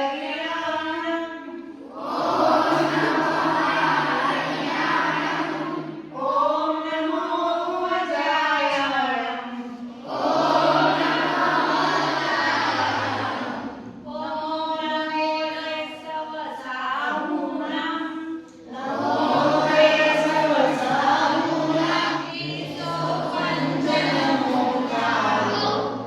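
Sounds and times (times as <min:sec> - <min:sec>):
group chanting a prayer: 0:00.0 - 0:26.0.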